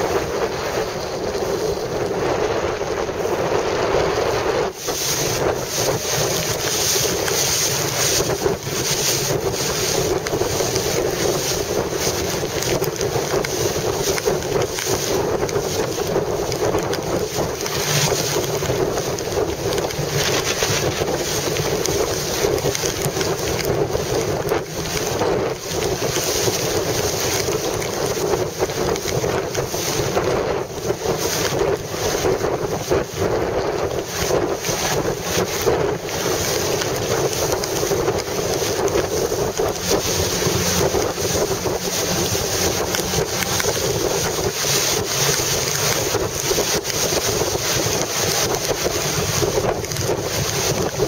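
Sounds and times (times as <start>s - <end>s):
choppy water slapping: 0.0s - 51.0s
wind buffeting microphone: 0.0s - 51.0s.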